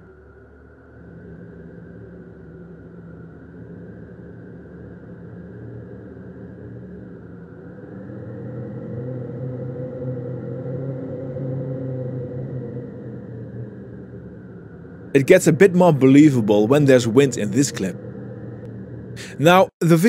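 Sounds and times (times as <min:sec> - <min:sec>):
synthesized wind noise: 0:00.0 - 0:20.0.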